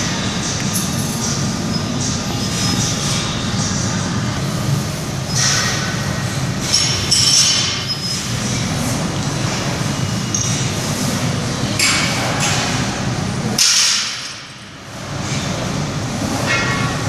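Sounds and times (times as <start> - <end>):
ventilation rumble: 0.0 - 17.0.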